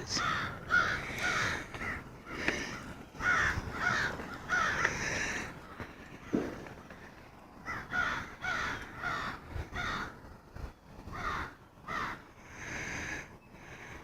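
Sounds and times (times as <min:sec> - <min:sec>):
crows cawing: 0:00.0 - 0:10.4, 0:11.0 - 0:14.0.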